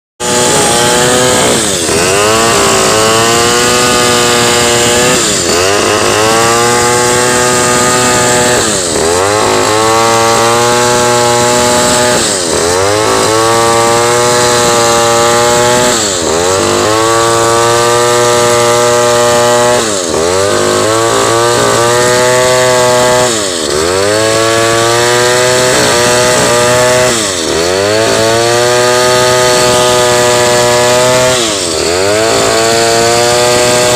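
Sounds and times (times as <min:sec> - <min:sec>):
chainsaw running: 0:00.2 - 0:33.9.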